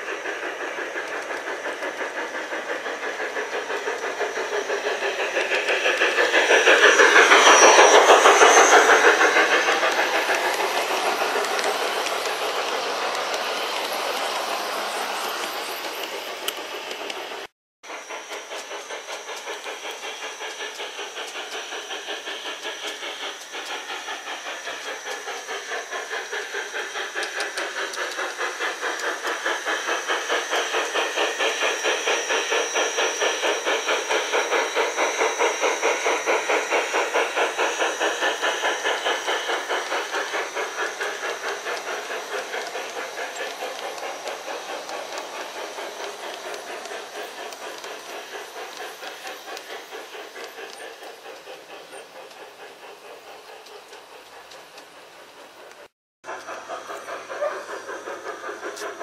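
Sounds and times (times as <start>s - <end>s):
model steam locomotive chuffing: 0.0s - 59.0s
steady steam hiss: 0.0s - 59.0s.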